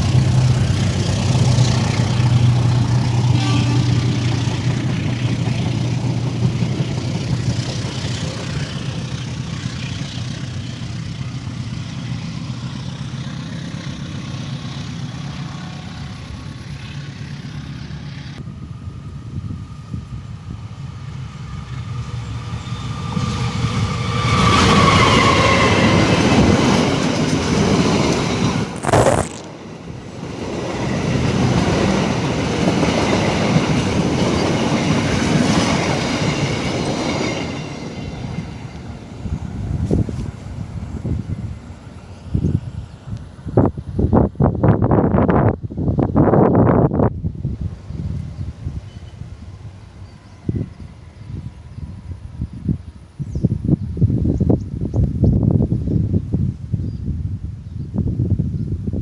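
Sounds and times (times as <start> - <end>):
rolling train cars rumbling: 0.0 - 58.6
diesel locomotive engine hum: 0.0 - 59.0.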